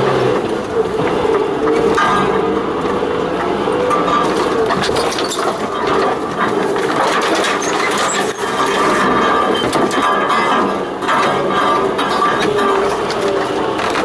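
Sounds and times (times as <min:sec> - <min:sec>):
vehicle body rattling: 0:00.0 - 0:14.0
vehicle engine droning: 0:00.0 - 0:14.0.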